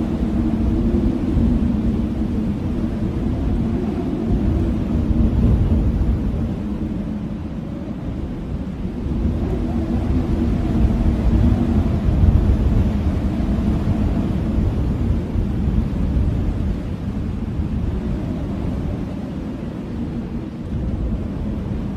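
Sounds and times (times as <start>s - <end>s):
blizzard wind gusts: 0.0s - 21.9s.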